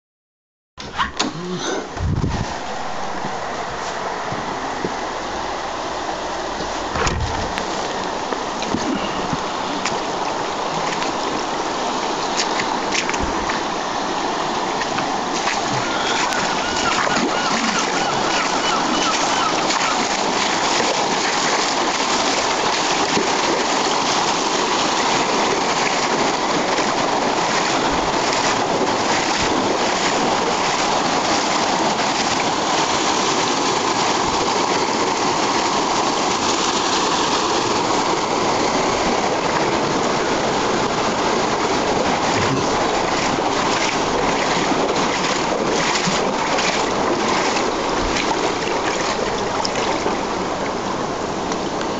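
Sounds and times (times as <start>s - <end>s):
floodwater rushing and splashing: 0.8s - 51.9s.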